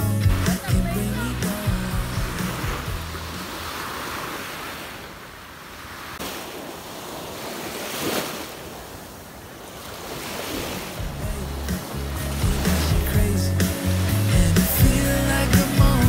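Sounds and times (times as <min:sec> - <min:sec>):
small waves breaking on beach: 0:00.0 - 0:14.9.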